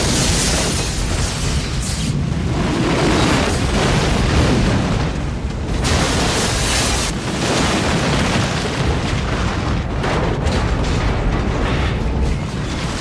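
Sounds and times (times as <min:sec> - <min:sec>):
crashing explosive noise: 0:00.0 - 0:13.0.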